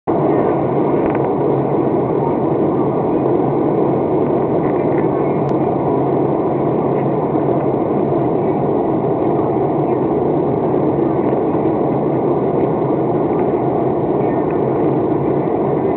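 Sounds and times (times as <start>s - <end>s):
airliner cabin engine rush: 0.1s - 15.9s
low hum: 0.1s - 15.9s.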